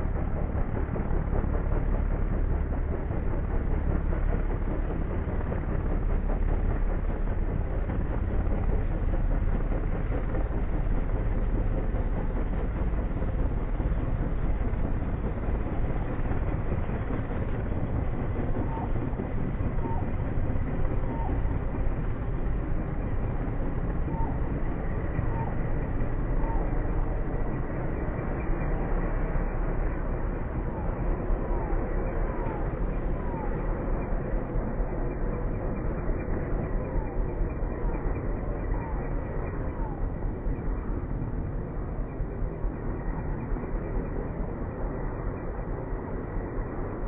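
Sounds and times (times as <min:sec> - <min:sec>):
helicopter flying overhead: 0:00.0 - 0:47.0.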